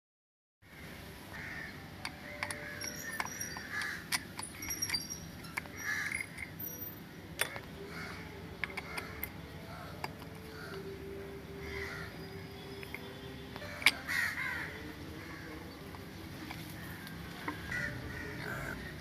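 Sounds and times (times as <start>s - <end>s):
birds chirping and cawing: 0.7s - 19.0s.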